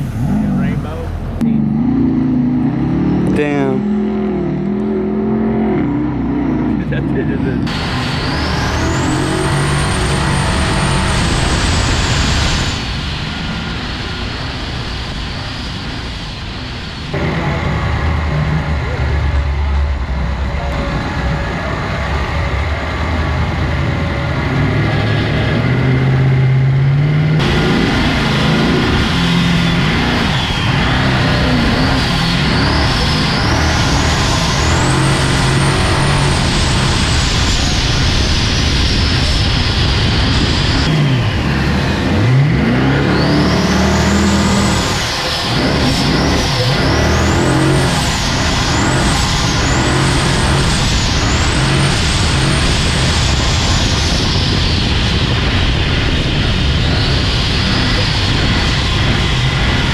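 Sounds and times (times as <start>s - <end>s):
boat engine running: 0.0s - 14.5s, 17.1s - 59.9s
turbo whine: 0.0s - 59.9s.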